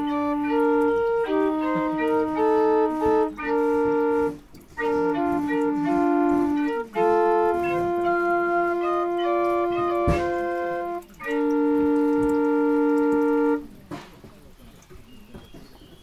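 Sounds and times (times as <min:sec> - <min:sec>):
pipe organ playing chords: 0:00.0 - 0:13.6.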